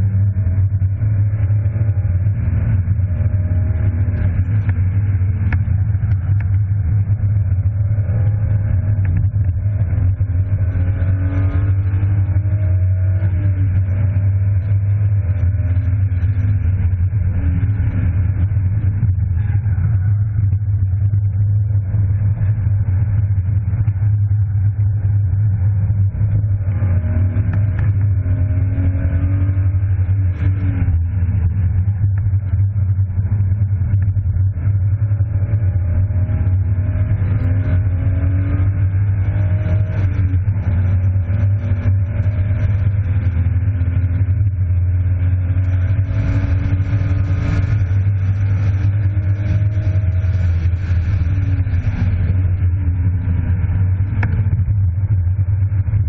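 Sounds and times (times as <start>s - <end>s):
car engine accelerating: 0.0s - 56.0s
low rumble: 0.0s - 56.0s.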